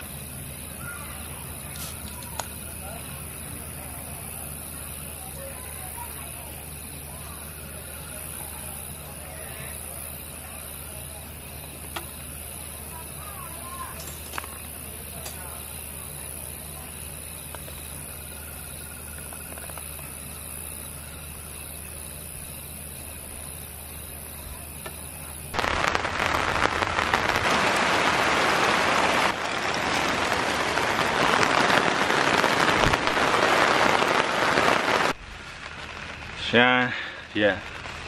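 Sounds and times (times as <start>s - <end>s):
heavy rain on grass and tarp: 0.0s - 22.1s, 25.4s - 38.0s
high hiss: 0.0s - 38.0s.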